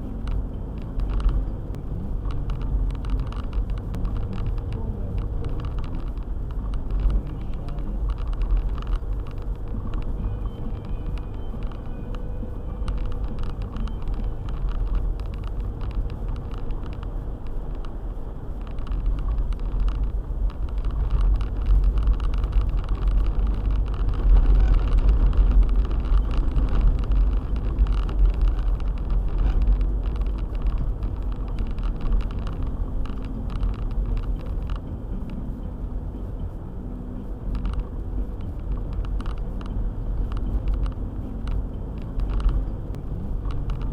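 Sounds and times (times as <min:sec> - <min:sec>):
engine and tyres rumbling: 0:00.0 - 0:43.9
small clicks and knocks: 0:00.2 - 0:18.0, 0:18.6 - 0:35.4, 0:37.5 - 0:43.9.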